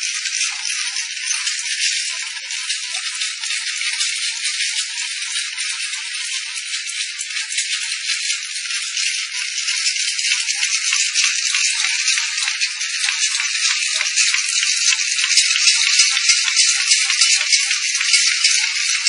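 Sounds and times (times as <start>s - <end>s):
labelling machine rattling: 0.0s - 19.0s.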